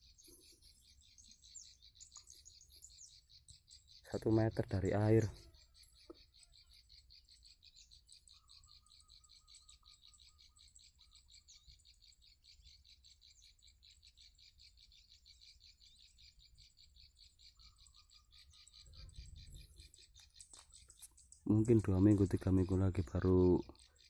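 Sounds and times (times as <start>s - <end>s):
insects trilling: 0.0s - 24.0s
lower insect trill: 0.0s - 24.0s.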